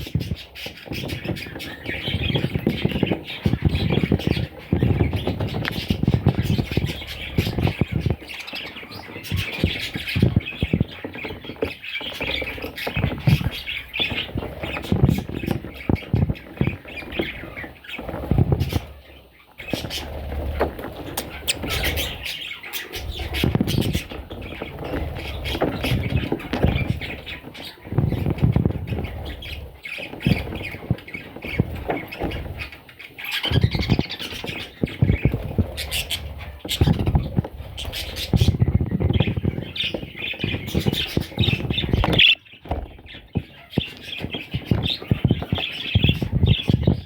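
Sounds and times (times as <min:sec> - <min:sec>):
baby budgies squawking: 0:00.0 - 0:47.0
clicks and bumps: 0:00.0 - 0:47.0
rustling near microphone: 0:00.0 - 0:47.0.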